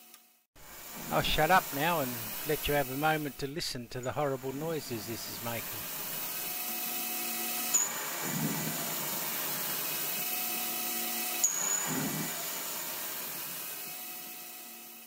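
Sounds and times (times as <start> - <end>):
lathe cutting metal: 0.6 - 15.0.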